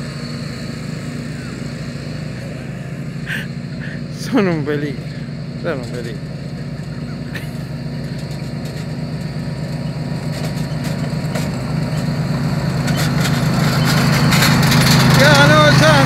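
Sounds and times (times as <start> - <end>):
riding lawn mower engines humming: 0.0 - 16.0.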